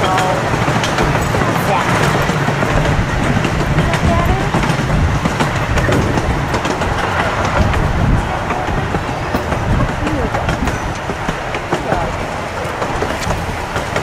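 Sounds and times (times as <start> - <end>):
voices: 0.0 - 13.5
train wheels clacking over rails: 0.0 - 14.0.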